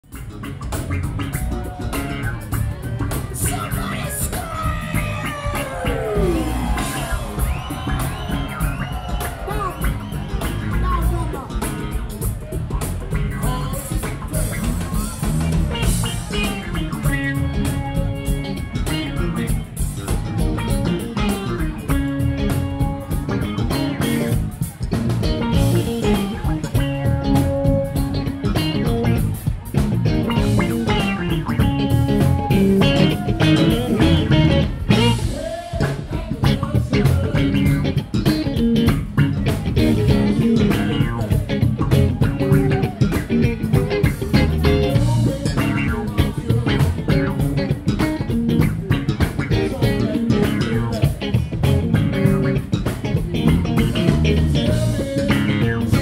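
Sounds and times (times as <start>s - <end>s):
live funk band playing: 0.0s - 56.0s.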